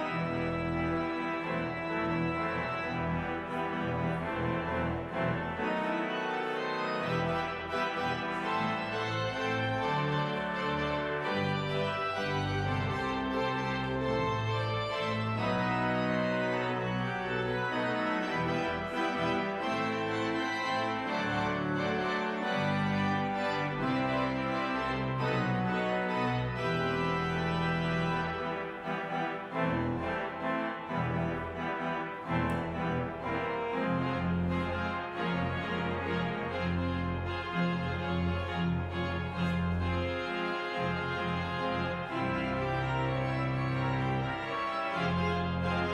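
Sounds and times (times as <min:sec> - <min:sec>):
church organ playing chords: 0:00.0 - 0:45.9.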